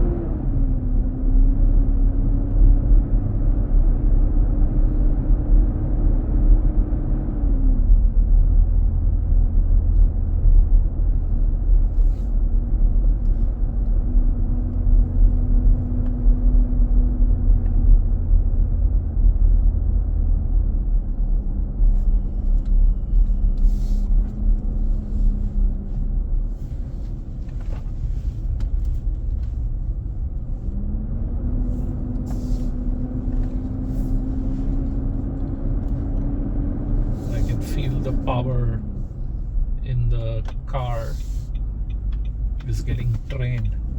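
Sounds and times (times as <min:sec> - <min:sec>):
engine cooling fan roar: 0:00.0 - 0:43.9.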